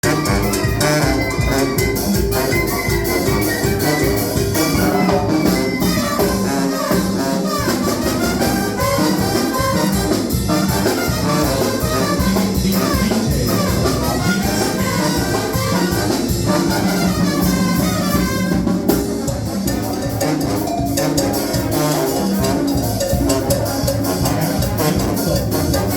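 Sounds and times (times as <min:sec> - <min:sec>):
latin dance band with brass: 0:00.0 - 0:25.9
steady drum beat: 0:00.0 - 0:25.9.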